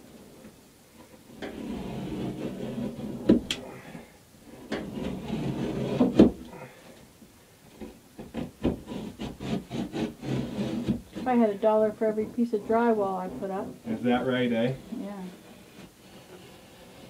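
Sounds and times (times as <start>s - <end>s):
rubbing on wood: 1.3s - 3.9s, 4.5s - 6.7s, 7.8s - 17.0s.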